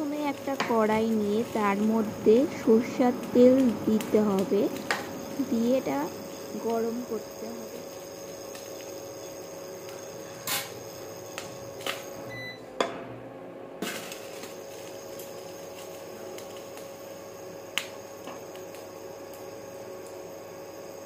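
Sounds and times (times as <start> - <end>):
induction cooktop humming: 0.0 - 21.0.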